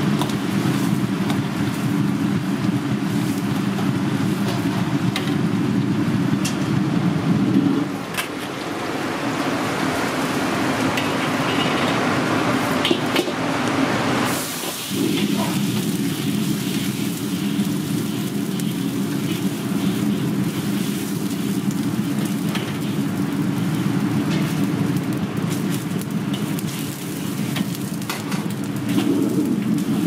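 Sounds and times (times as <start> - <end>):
gas burner rushing: 0.0 - 30.0.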